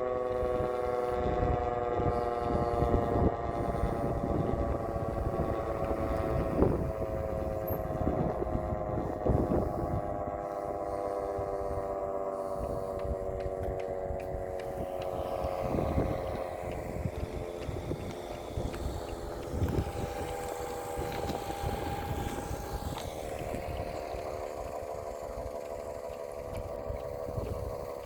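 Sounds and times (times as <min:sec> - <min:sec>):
air-raid siren droning: 0:00.0 - 0:28.0.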